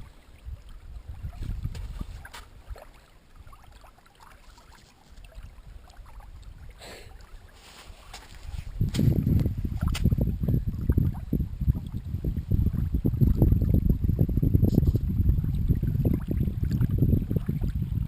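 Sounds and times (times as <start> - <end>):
wind on microphone: 0.0 - 3.6, 5.2 - 18.0
water lapping at shoreline: 0.0 - 18.0.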